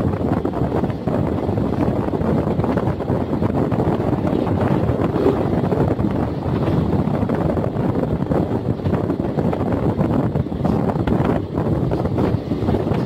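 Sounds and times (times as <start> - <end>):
train coaches rumbling on rails: 0.0 - 13.0
wind buffeting microphone: 0.0 - 13.0.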